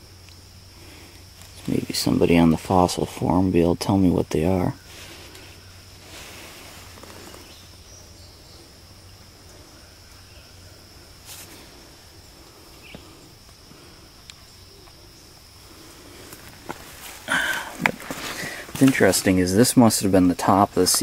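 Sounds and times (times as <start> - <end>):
insect high-pitched trill: 0.0 - 21.0.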